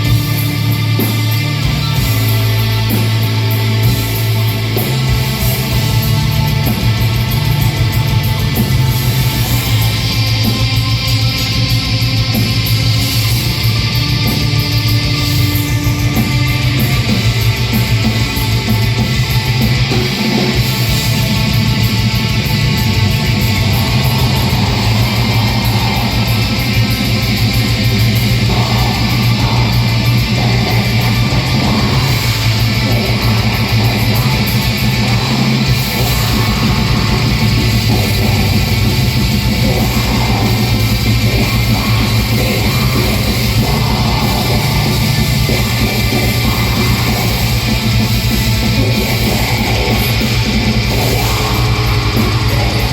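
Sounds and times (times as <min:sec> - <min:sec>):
distorted electric guitar: 0:00.0 - 0:52.9
drums: 0:00.0 - 0:52.9.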